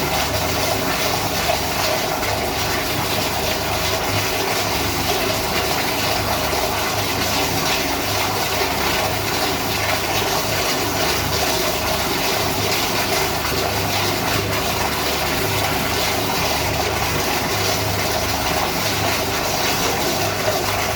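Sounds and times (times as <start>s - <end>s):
toilet water rushing: 0.0s - 20.9s.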